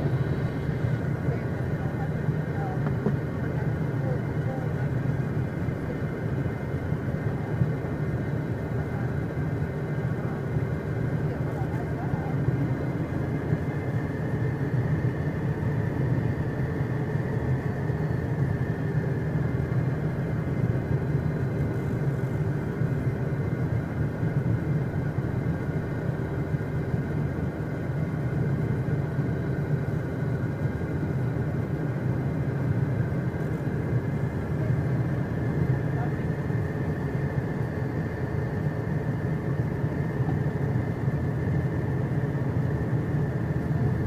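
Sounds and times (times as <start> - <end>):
jet engines idling rumble: 0.0 - 44.0
thin steady whine: 0.0 - 44.0.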